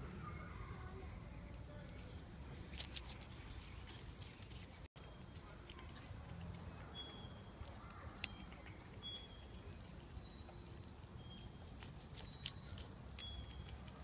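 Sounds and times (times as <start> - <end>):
cat chewing leaves: 1.8 - 14.0.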